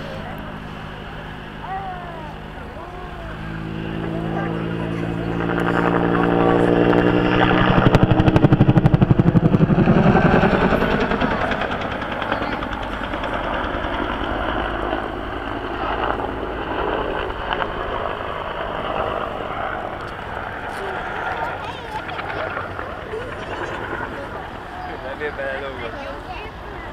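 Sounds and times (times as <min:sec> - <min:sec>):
helicopter rotor thudding: 0:02.2 - 0:24.8.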